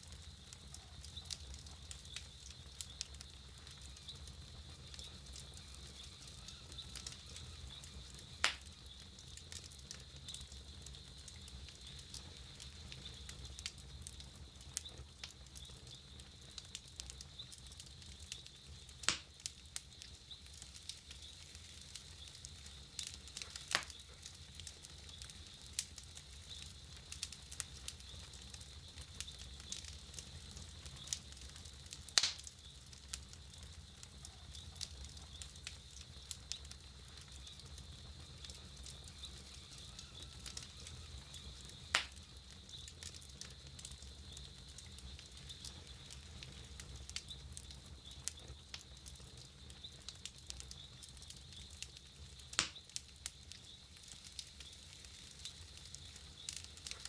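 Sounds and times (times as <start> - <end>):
campfire crackling: 0.0 - 57.0
loud fire pops: 0.0 - 57.0.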